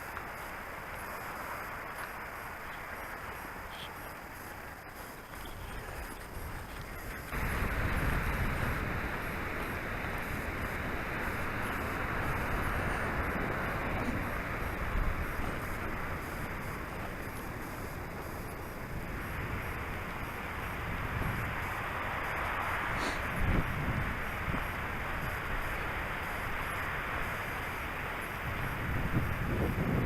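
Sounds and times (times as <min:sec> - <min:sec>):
road noise: 0:00.0 - 0:30.0
wind rushing over microphone: 0:04.8 - 0:30.0.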